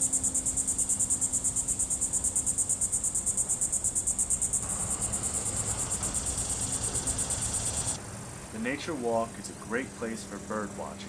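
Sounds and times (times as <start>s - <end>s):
insect chirping: 0.0s - 10.9s.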